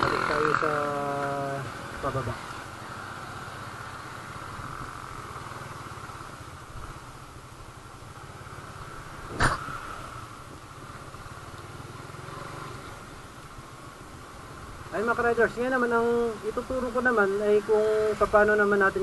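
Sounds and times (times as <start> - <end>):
motorcycle engine running: 0.0 - 18.7.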